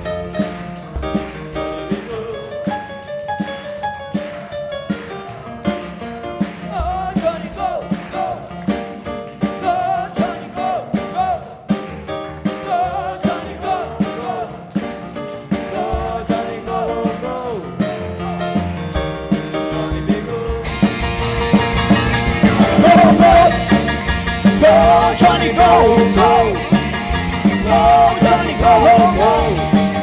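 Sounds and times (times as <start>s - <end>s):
drums keeping steady beat: 0.0s - 30.0s
live rock band playing: 0.0s - 30.0s.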